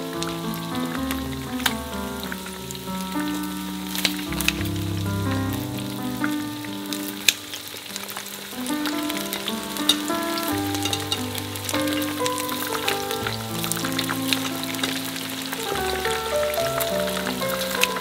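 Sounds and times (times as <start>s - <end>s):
melodic background music: 0.0s - 7.8s, 8.7s - 18.0s
chicken sizzling in oil: 0.0s - 18.0s
oil popping: 0.0s - 18.0s.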